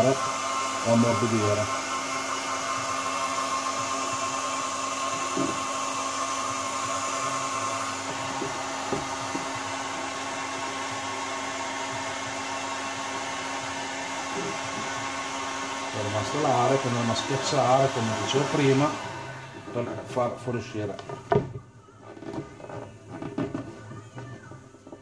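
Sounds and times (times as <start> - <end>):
heat gun blowing: 0.0 - 21.5.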